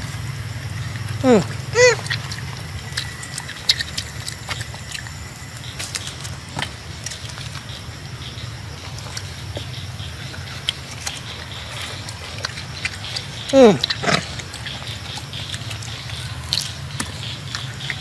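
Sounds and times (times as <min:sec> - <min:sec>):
monkey chewing fruit: 0:00.0 - 0:18.0.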